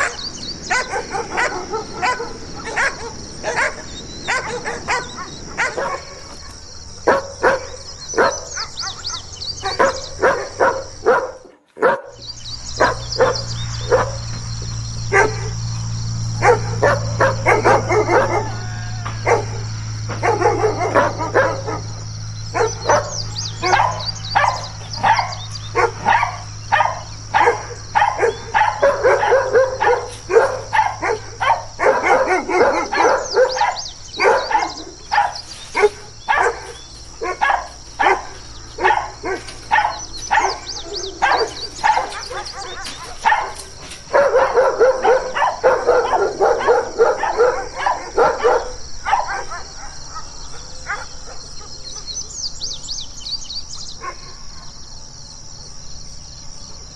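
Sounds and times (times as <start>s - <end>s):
dogs barking aggressively: 0.0s - 56.9s.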